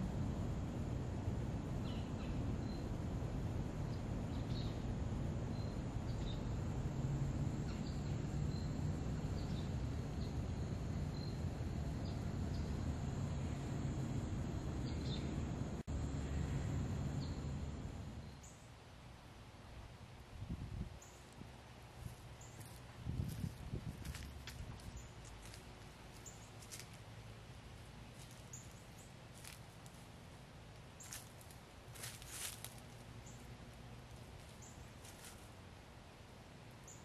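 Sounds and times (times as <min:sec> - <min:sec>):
steady low rumble: 0:00.0 - 0:36.8.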